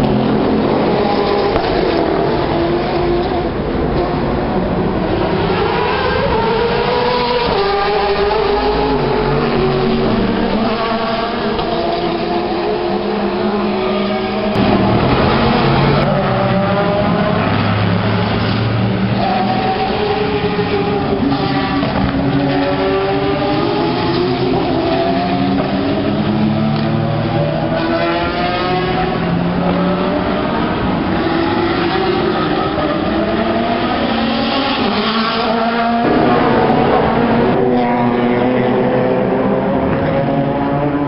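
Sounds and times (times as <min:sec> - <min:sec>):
racing car engines at full throttle: 0:00.0 - 0:41.0.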